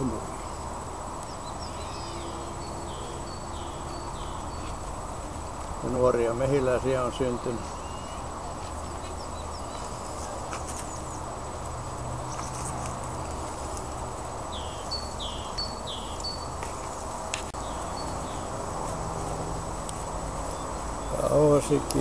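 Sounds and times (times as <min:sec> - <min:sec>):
bird chirping: 0:00.0 - 0:22.0
honeybees humming: 0:00.0 - 0:22.0.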